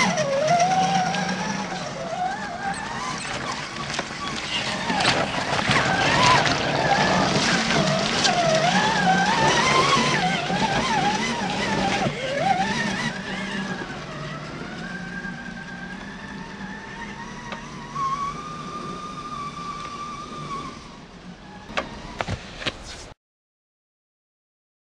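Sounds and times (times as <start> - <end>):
electric motor whine: 0.0 - 22.7.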